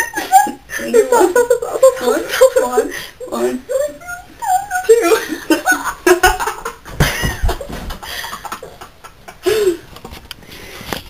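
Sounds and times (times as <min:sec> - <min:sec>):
people laughing: 0:00.0 - 0:02.9, 0:03.6 - 0:09.8.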